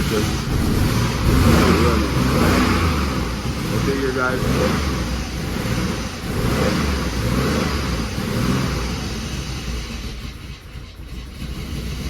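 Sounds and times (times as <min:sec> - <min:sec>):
car engine running rough: 0:00.0 - 0:12.0.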